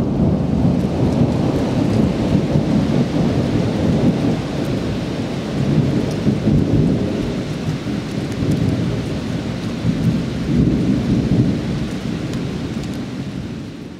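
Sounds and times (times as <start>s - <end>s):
rain falling: 0.0s - 13.9s
thunder rumbling: 0.0s - 13.9s.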